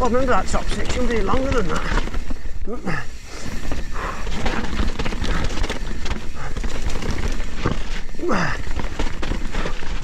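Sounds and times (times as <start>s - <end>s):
bike rattling over bumps: 0.0s - 10.0s
bike tyre noise: 0.0s - 10.0s.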